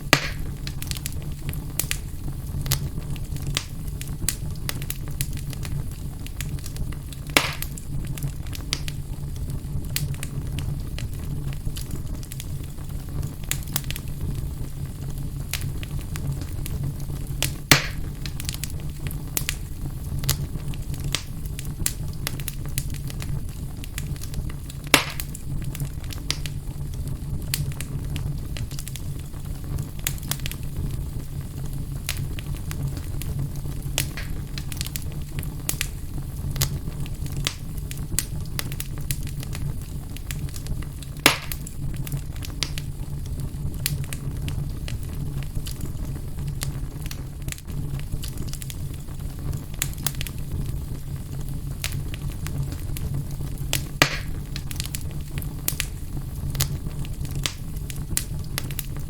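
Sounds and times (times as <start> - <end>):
fire crackling in fireplace: 0.0 - 59.0
loud fire pops: 0.0 - 59.0.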